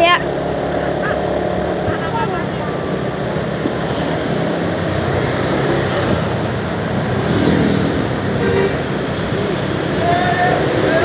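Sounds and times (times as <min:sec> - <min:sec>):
road noise: 0:00.0 - 0:11.0
vehicle engines rumbling: 0:00.0 - 0:11.0.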